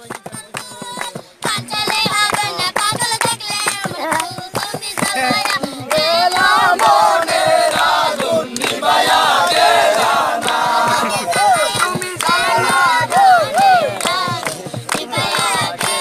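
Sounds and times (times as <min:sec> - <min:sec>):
children singing together: 0:01.7 - 0:16.0.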